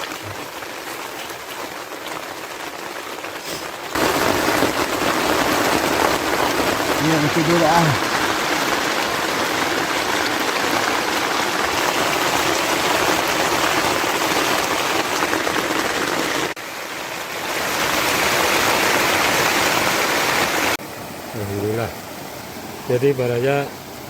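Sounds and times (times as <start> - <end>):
rushing water hiss: 0.0 - 24.0.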